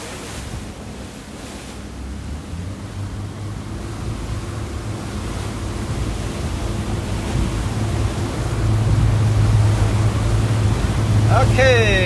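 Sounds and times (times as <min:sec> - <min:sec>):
boat engine hum: 0:00.0 - 0:12.0
water rushing: 0:00.0 - 0:12.0.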